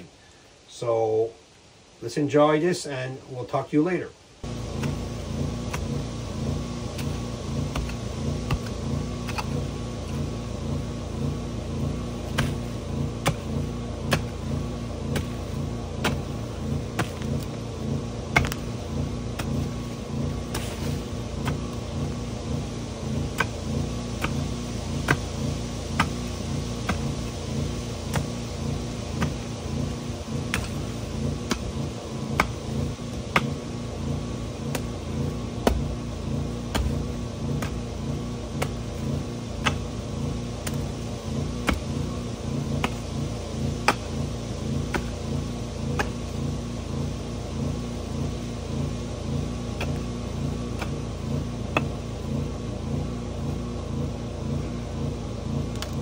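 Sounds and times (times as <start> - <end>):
engine running: 4.4 - 56.0.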